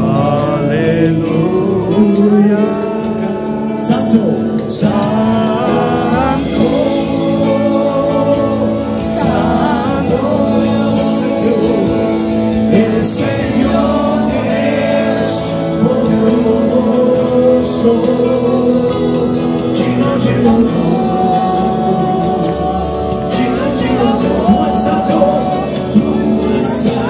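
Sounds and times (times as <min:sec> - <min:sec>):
man singing into a microphone: 0:00.0 - 0:27.0
sustained backing chords: 0:00.0 - 0:27.0.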